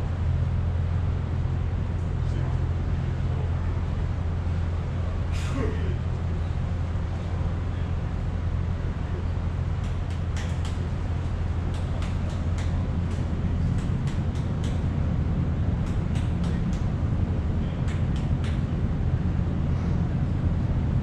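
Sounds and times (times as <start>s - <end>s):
ship low rumble: 0.0s - 21.0s.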